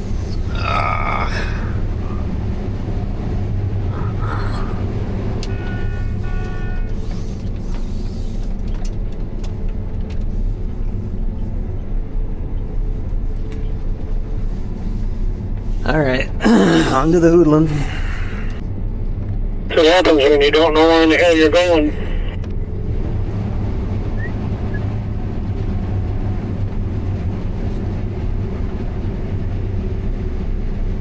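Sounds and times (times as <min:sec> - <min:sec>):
combine harvester rumbling: 0:00.0 - 0:31.0.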